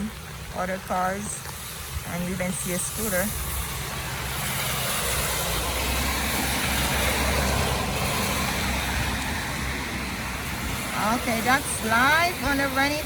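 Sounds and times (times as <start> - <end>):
vehicle engine rumble: 0.0 - 13.0
tyre hiss on wet road: 1.3 - 11.9.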